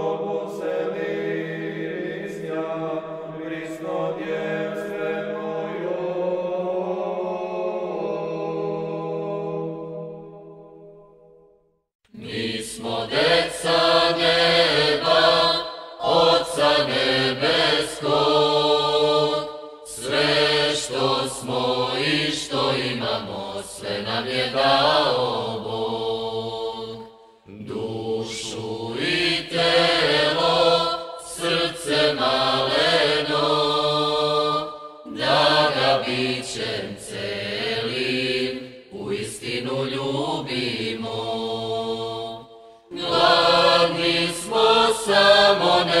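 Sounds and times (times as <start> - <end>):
church chant singing: 0.0 - 11.3, 12.1 - 46.0.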